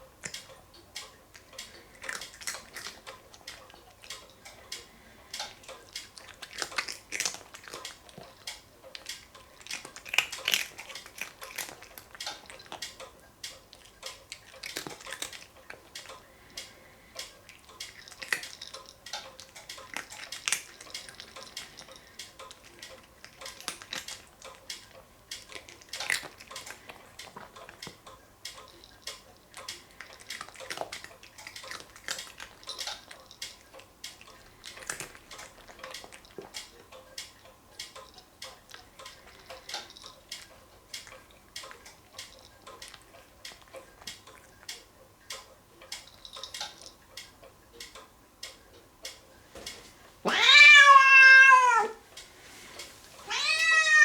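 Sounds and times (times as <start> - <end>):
cat crunching dry kibble: 0.2 - 47.1, 49.6 - 54.0.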